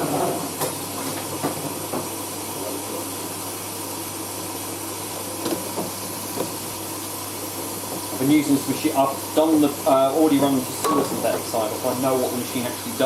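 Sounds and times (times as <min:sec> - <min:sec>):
water rushing into washing machine: 0:00.0 - 0:13.0.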